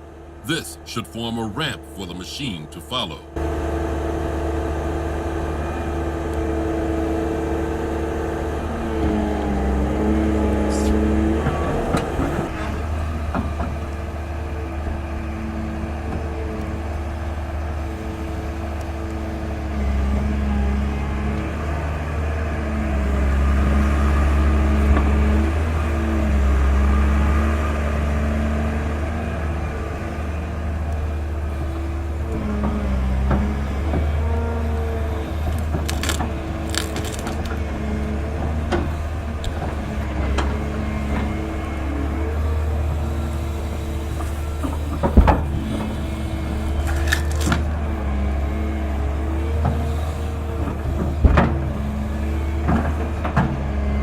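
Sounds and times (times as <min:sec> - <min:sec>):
heavy machinery engine running: 0:00.0 - 0:54.0.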